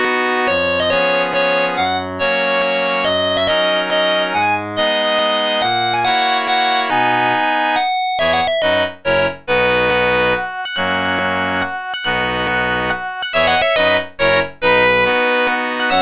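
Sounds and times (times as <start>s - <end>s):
polyphonic ringtone melody: 0.5s - 16.0s.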